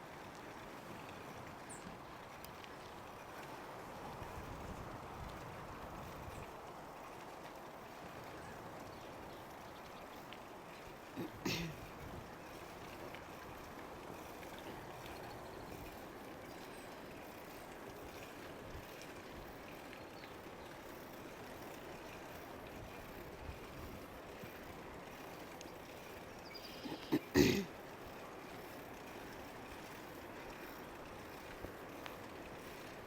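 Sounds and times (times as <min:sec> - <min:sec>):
bicycle tyres on road: 0:00.0 - 0:33.0.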